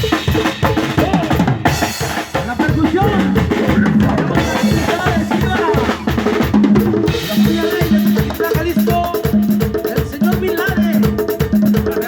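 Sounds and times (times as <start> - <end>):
live band playing cumbia: 0.0 - 12.0.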